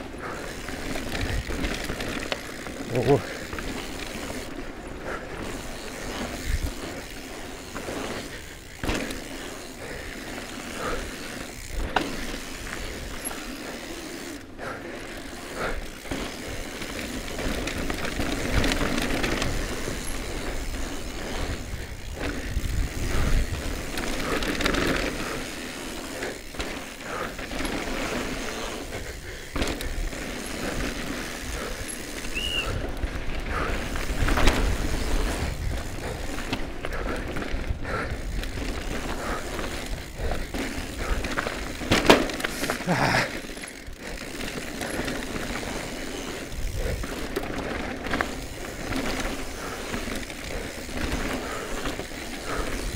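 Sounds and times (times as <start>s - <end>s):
tyre and wind noise: 0.0s - 14.4s, 15.0s - 52.9s
bike rattling and knocking: 0.0s - 52.9s.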